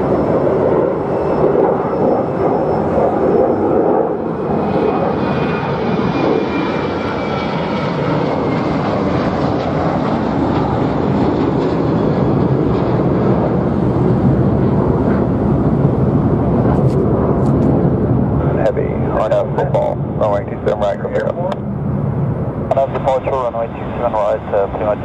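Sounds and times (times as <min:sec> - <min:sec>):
jet engine roar: 0:00.0 - 0:25.0
jet engine whine: 0:00.0 - 0:25.0.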